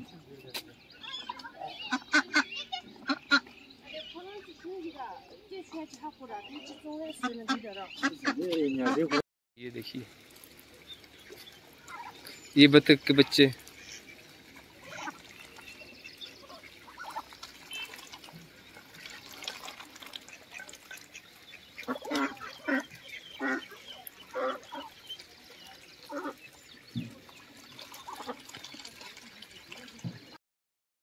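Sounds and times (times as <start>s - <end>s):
ducks quacking: 0.5s - 9.2s, 11.0s - 30.2s.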